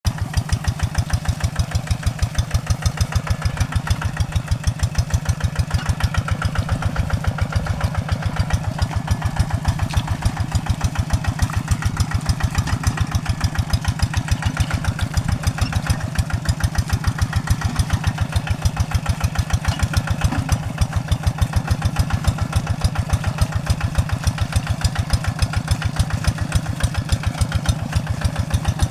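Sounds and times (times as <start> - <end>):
diesel engine chugging: 0.1 - 28.9.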